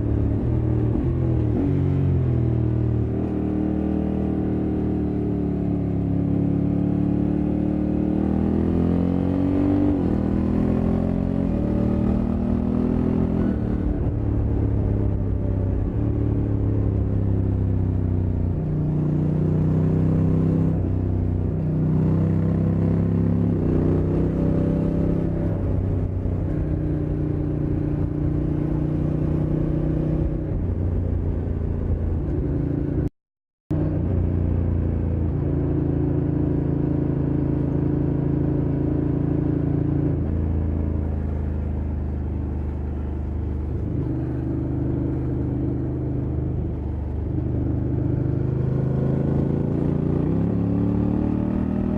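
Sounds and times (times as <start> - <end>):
road noise: 0.0 - 33.1, 33.7 - 51.9.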